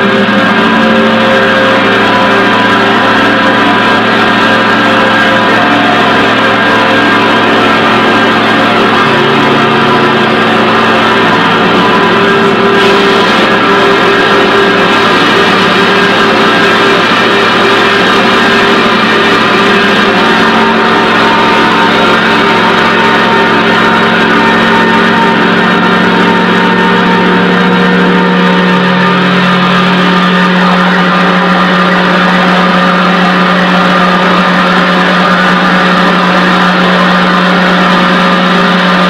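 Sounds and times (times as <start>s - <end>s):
noise guitar and bass drone: 0.0s - 39.0s.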